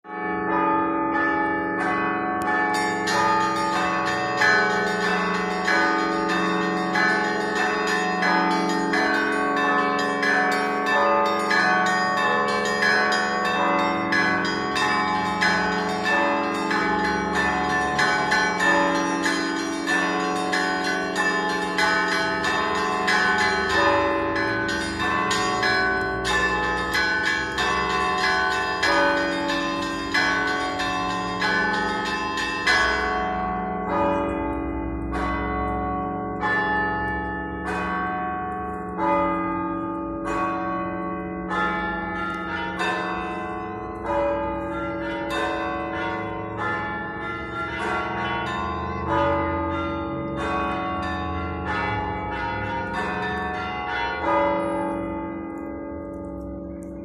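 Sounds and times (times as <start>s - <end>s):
deep church bell: 0.0s - 57.0s
smaller bells ringing: 0.0s - 57.0s.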